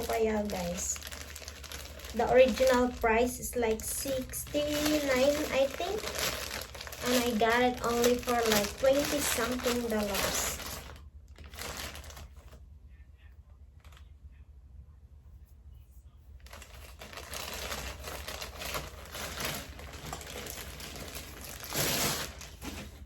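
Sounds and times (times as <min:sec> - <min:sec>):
packaging crinkling: 0:00.0 - 0:12.6, 0:16.4 - 0:23.0
wrapping rustle: 0:00.0 - 0:12.6, 0:16.4 - 0:23.0.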